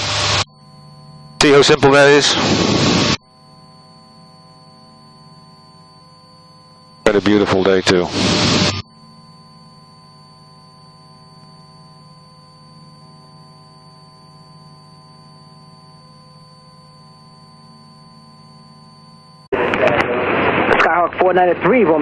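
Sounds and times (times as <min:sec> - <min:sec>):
thin high whine: 0:00.0 - 0:22.0.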